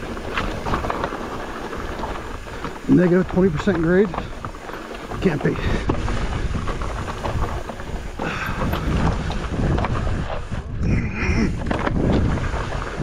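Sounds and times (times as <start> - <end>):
bike tyres rattling over rock: 0.0 - 13.0
wind buffeting microphone: 0.0 - 13.0.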